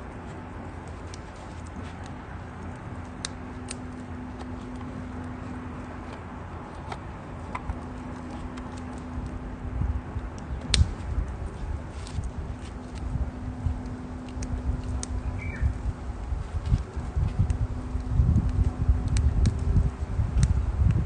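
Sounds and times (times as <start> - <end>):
campfire crackling: 0.0 - 21.0
steady low hum: 0.0 - 21.0.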